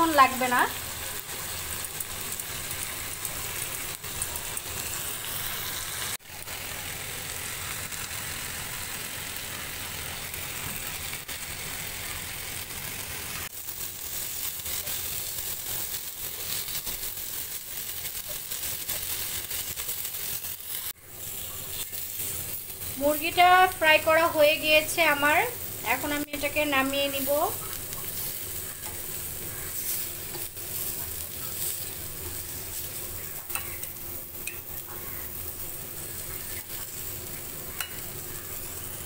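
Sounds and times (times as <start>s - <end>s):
chicken sizzling in oil: 0.0s - 39.0s.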